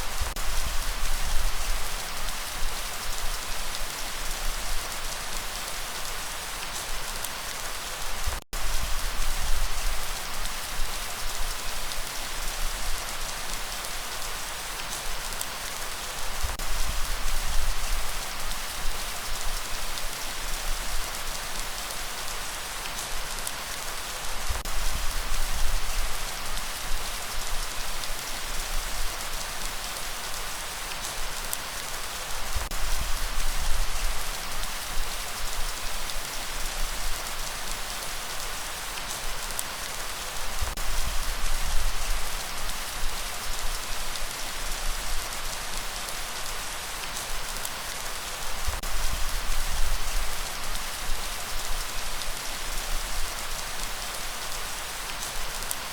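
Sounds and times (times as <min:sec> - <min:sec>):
dense rainfall hiss: 0:00.0 - 0:55.9.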